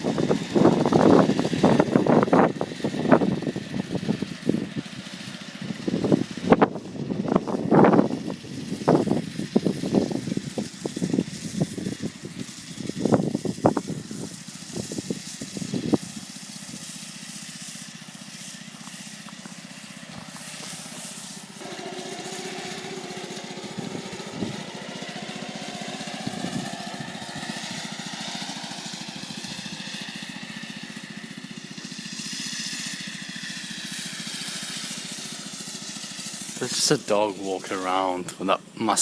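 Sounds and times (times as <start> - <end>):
lawn mower engine running: 0.0 - 39.0.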